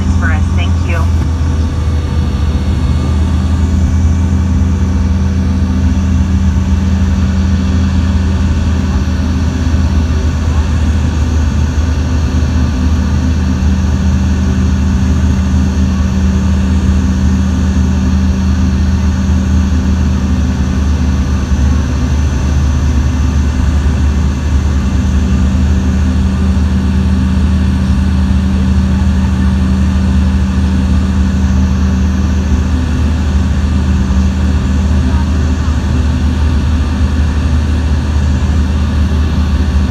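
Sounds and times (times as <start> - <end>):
airliner engine drone in cabin: 0.0 - 39.9.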